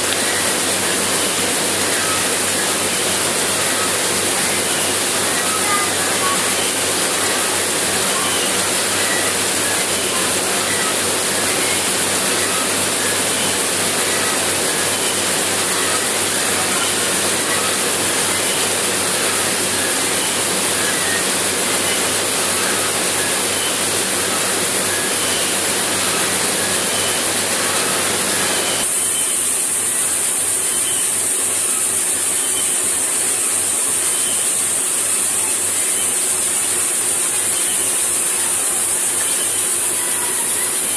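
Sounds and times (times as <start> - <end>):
machinery rushing and hissing: 0.0 - 40.9.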